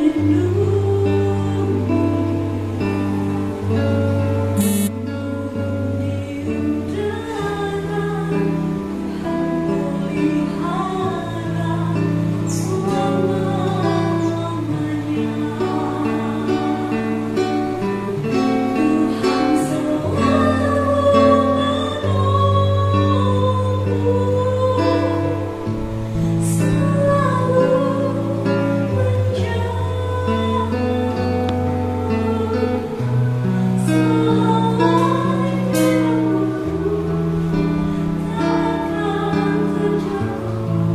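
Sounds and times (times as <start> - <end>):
strummed acoustic guitar: 0.0 - 40.9
woman singing slow worship song: 0.0 - 40.9.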